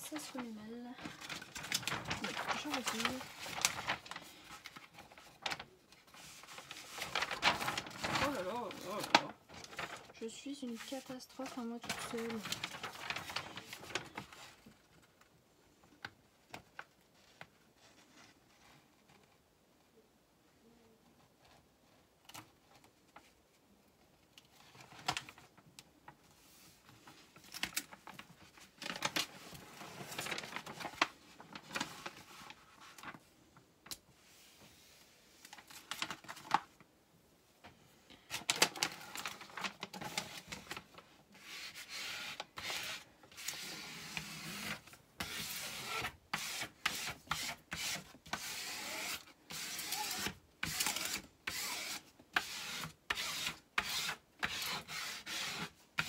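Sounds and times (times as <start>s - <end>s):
protective film crinkling: 0.0s - 17.6s, 24.2s - 34.1s, 35.4s - 36.9s, 38.2s - 54.9s.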